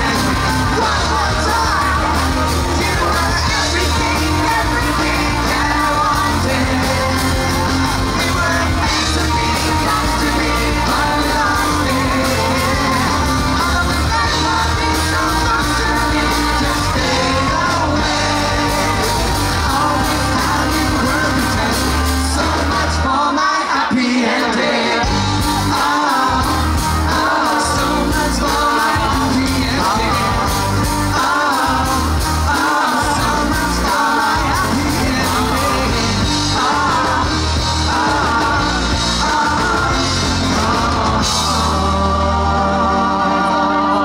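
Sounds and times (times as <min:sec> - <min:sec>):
live band playing: 0:00.0 - 0:44.0
person singing: 0:00.0 - 0:44.0.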